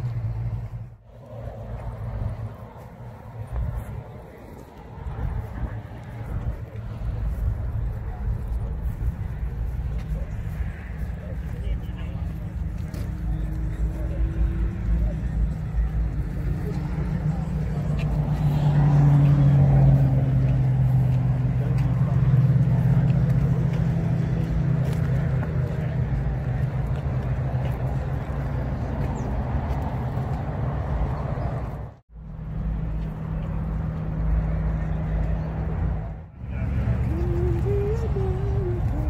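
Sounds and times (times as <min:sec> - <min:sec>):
murmur of people talking: 0:01.3 - 0:30.6, 0:34.8 - 0:39.0.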